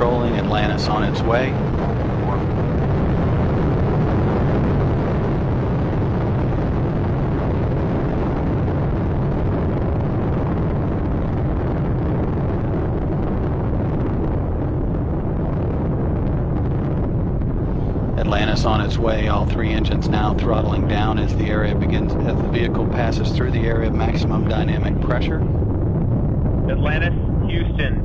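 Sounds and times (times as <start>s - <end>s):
deep rocket engine rumble: 0.0s - 28.0s.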